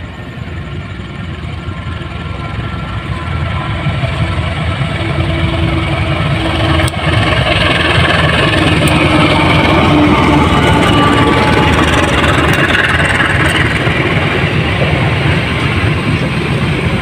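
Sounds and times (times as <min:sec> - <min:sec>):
diesel locomotive engine running: 0:00.0 - 0:17.0
train coaches rolling: 0:00.0 - 0:17.0.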